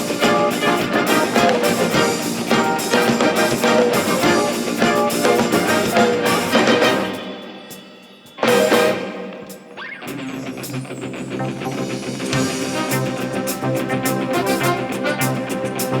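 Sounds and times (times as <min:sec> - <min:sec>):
instrumental music: 0:00.0 - 0:16.0.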